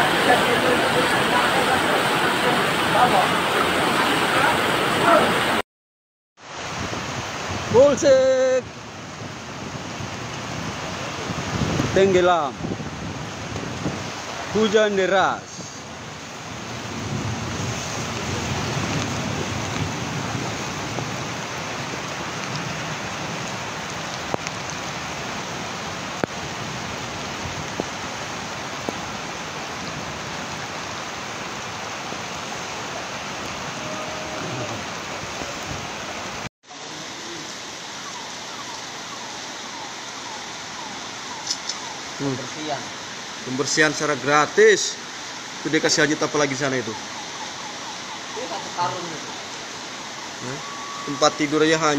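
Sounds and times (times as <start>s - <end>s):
heavy rain hissing: 0.0s - 5.6s, 6.4s - 51.9s.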